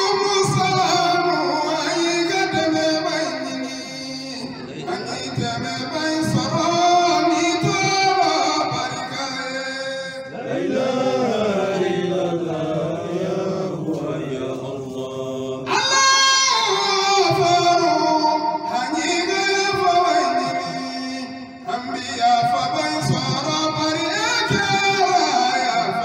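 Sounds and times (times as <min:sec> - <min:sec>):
person chanting: 0:00.0 - 0:26.0.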